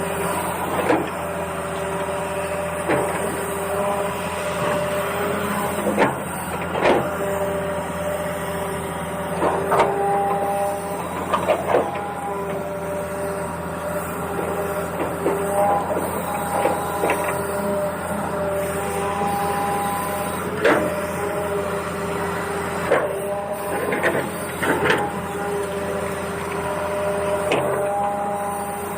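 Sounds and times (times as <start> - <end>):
small electric motors whining: 0.0 - 28.9.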